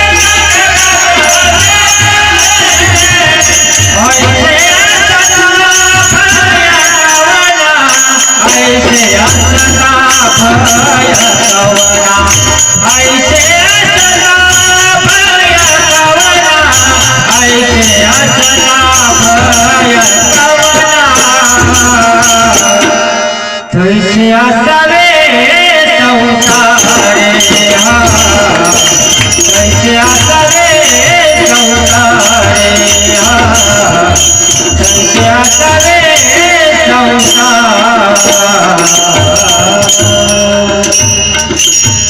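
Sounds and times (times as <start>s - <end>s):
devotional singing: 0.0s - 41.9s.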